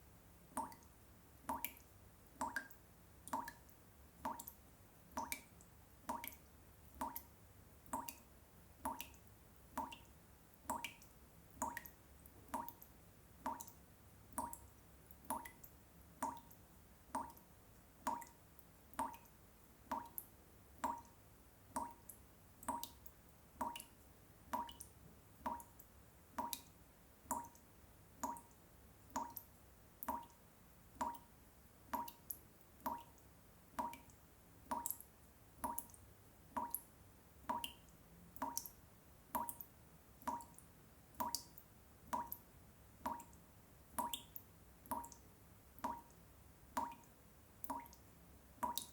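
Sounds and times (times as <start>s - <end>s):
water dripping: 0.5s - 48.9s.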